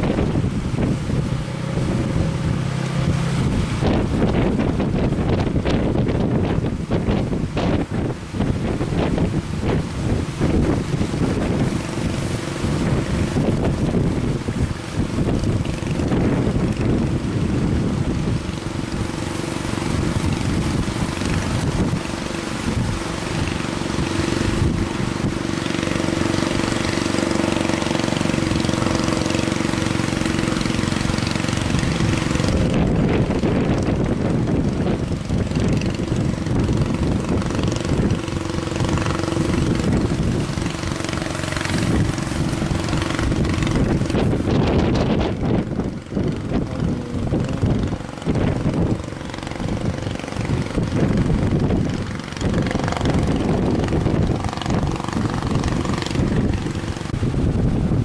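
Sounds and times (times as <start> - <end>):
boat motor running: 0.0 - 58.0
wind noise on microphone: 0.0 - 58.0.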